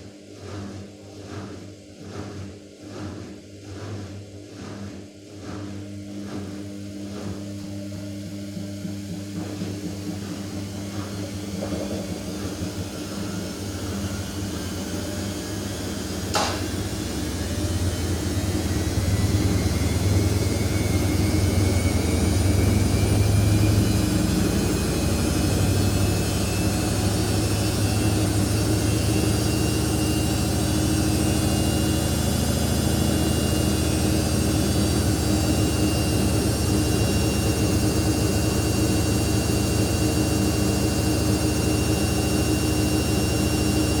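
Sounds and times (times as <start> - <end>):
washing machine spinning whine: 0.0 - 44.0.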